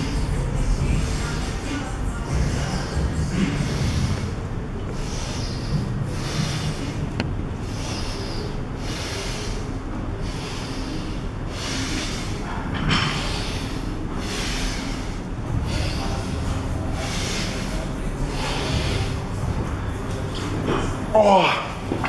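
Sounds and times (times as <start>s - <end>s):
man breathing forcefully: 0.0s - 20.1s
steady low hum: 0.0s - 22.0s.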